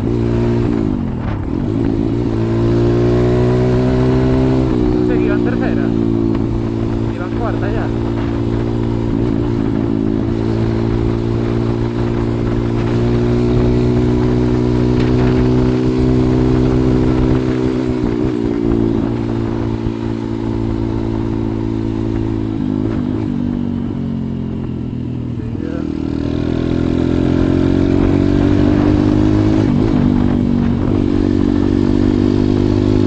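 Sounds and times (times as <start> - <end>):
single-cylinder engine running: 0.0 - 33.0.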